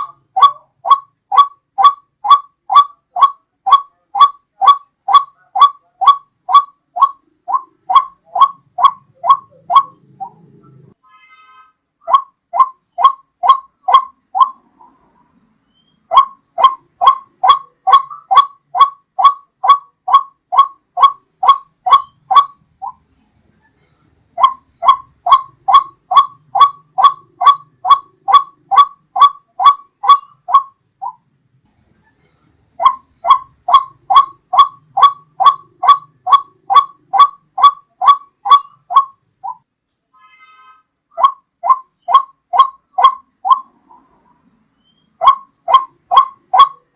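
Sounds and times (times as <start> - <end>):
waterhen calling: 0.0 - 10.9, 12.0 - 15.1, 15.7 - 23.1, 24.4 - 31.2, 32.8 - 39.6, 41.2 - 44.2, 44.8 - 46.9.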